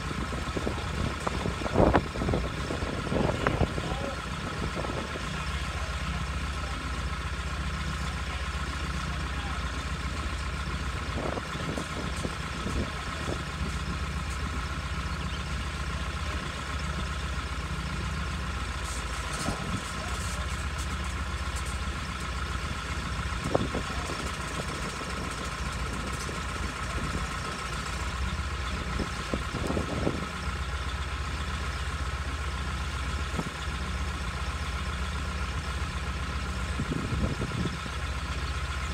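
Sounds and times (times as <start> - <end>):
crane engine idling: 0.0 - 38.9.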